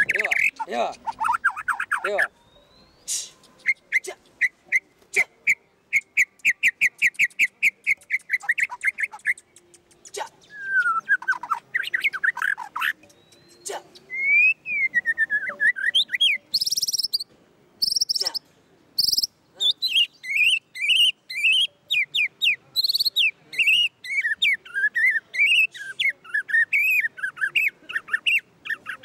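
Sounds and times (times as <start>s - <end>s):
bird whistling song: 0.0s - 4.9s, 5.5s - 18.3s, 19.0s - 29.0s.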